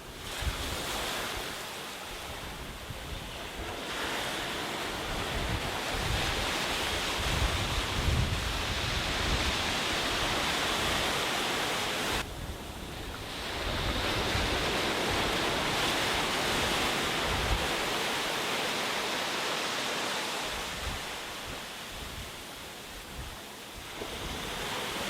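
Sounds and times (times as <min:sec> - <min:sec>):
wind rumble on microphone: 0:00.0 - 0:18.4, 0:20.5 - 0:25.0
sea waves washing on a beach: 0:00.0 - 0:25.0.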